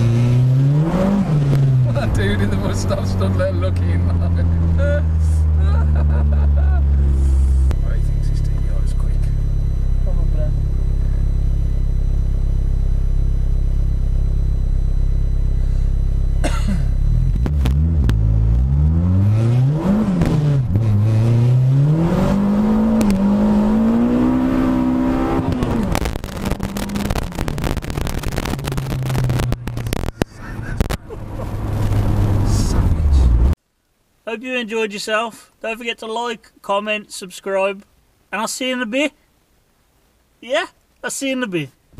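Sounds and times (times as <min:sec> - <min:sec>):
car engine accelerating: 0:00.0 - 0:33.6.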